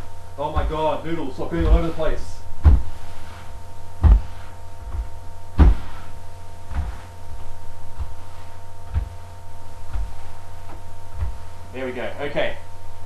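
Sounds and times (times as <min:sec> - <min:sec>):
broom thumping on floor: 0:00.0 - 0:11.7
broom brushing: 0:00.0 - 0:12.2
electrical hum: 0:00.0 - 0:13.0.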